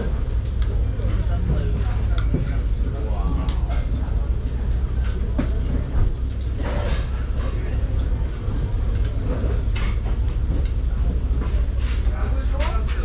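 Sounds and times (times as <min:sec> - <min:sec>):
faint voices talking: 0:00.0 - 0:13.0
steady low rumble: 0:00.0 - 0:13.0.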